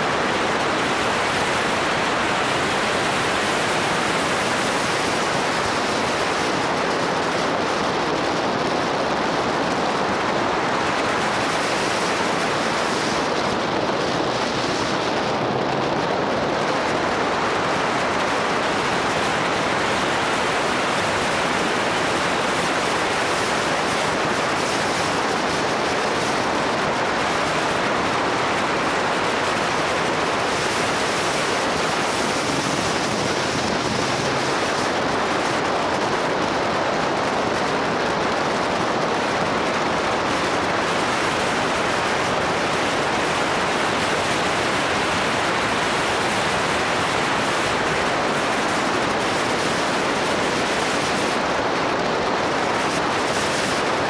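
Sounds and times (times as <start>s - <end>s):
rushing wind noise: 0.0s - 54.0s.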